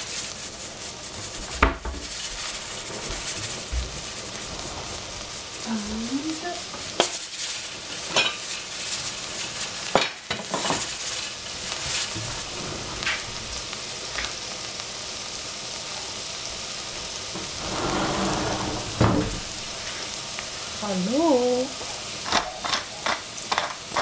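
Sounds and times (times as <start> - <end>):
sharp pops and crackles of frying: 0.0 - 17.6, 19.4 - 24.0
mushrooms sizzling in oil: 0.0 - 17.7, 18.9 - 24.0.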